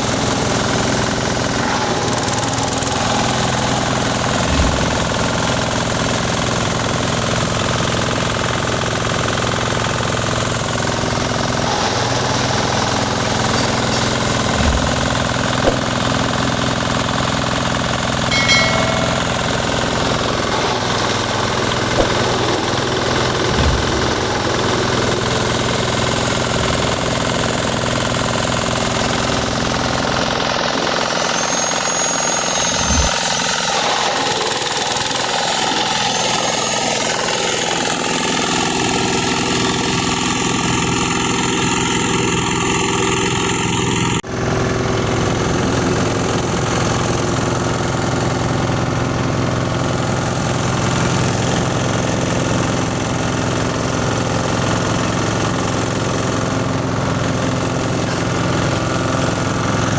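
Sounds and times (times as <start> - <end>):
grass chopper machine running: 0.0 - 59.9.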